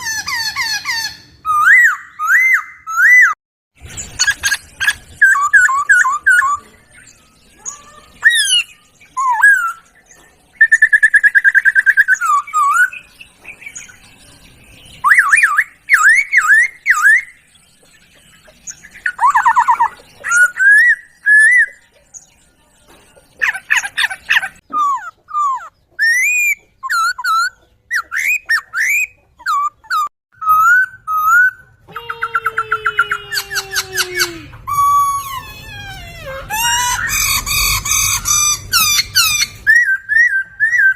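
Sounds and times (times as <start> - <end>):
songbird whistles and trills: 0.0 - 40.9.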